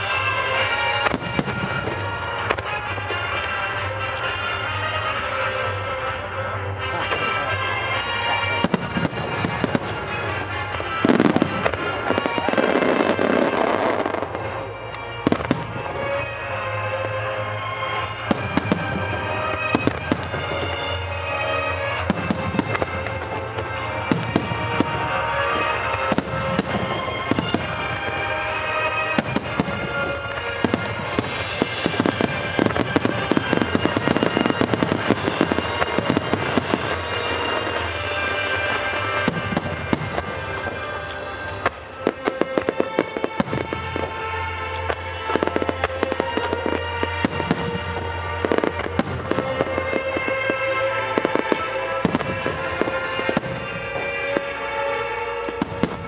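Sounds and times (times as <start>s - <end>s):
fireworks bangs: 0.0s - 5.8s, 6.7s - 56.0s
fireworks crackling: 0.0s - 56.0s
music with held tones: 0.0s - 56.0s.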